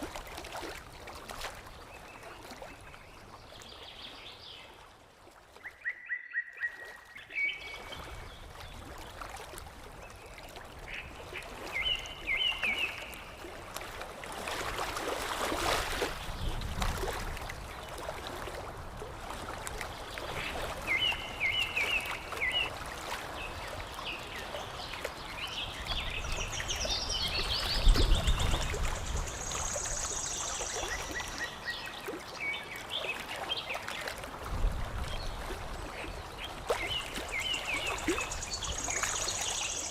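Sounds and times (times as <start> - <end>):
low splash: 0.0 - 5.7, 6.5 - 39.9
water lapping and splashing: 0.0 - 39.9.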